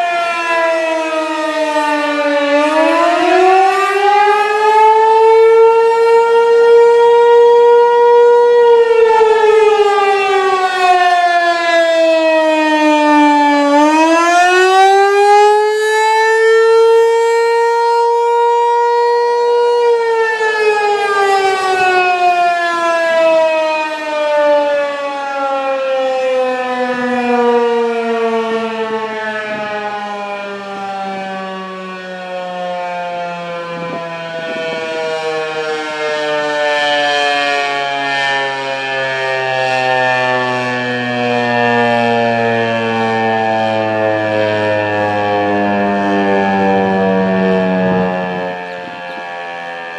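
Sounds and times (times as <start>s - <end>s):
outdoor warning siren wail: 0.0s - 49.9s.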